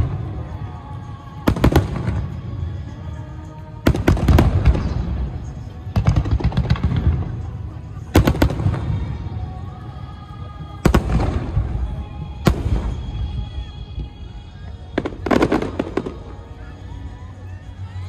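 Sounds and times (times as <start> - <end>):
fireworks bursting: 1.4 - 9.8, 10.6 - 16.9.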